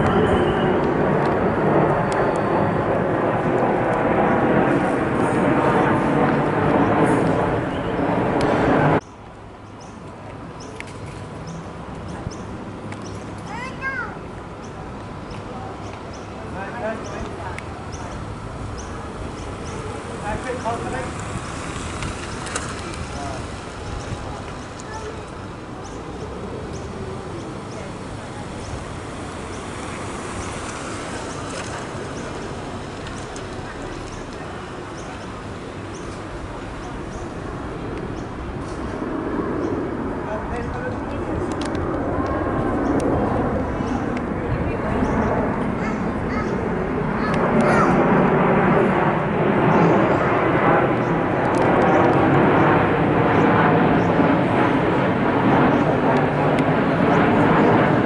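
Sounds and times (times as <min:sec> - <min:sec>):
jet plane passing overhead: 0:00.0 - 0:58.0.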